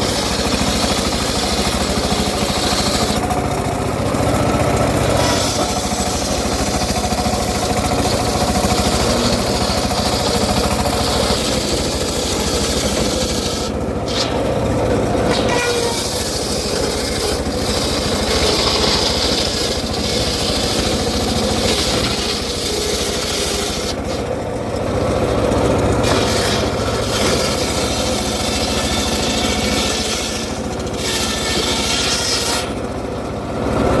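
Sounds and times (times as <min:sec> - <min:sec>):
circular saw cutting wood: 0:00.0 - 0:33.2.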